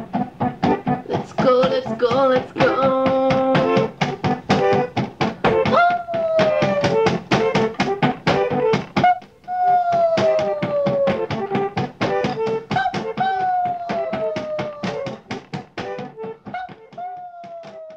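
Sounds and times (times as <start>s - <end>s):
held melodic notes: 0.0s - 17.3s
steady drum beat: 0.0s - 17.9s.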